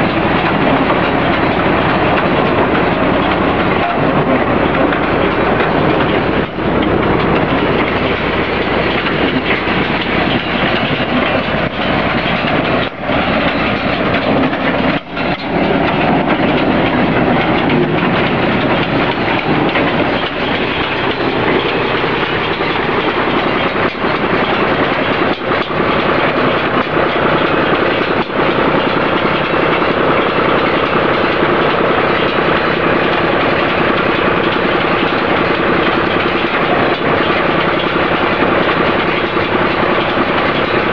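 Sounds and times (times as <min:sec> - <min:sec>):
baler mechanical clatter: 0:00.0 - 0:40.9
tractor engine under load: 0:00.0 - 0:40.9.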